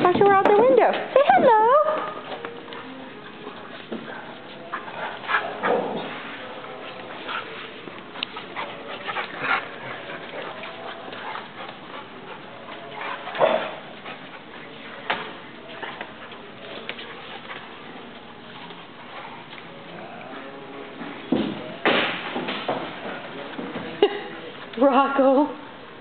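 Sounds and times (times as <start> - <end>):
dogs playing noises: 0.0 - 26.0.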